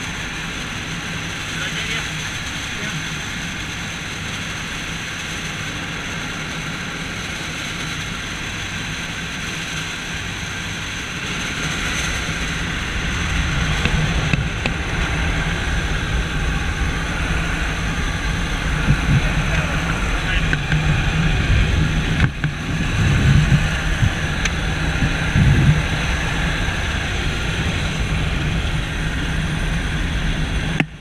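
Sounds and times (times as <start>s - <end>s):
propeller plane engines droning: 0.0s - 31.0s.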